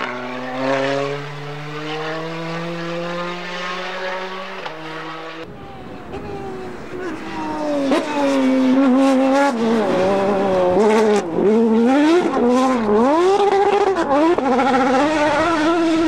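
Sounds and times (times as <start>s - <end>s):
rally car engine revving past: 0.0s - 5.5s, 7.2s - 16.0s.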